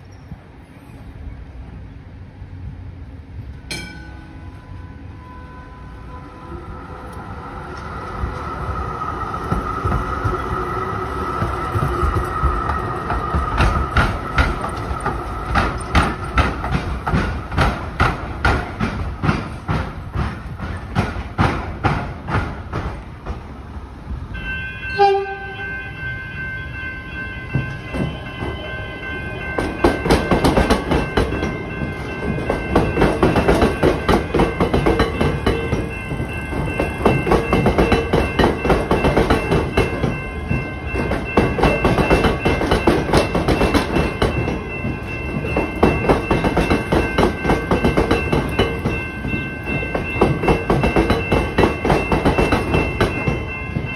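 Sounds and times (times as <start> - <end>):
tram wheels clattering over crossing: 6.6 - 23.8, 26.0 - 53.9
electric train clickety-clack: 7.0 - 53.9.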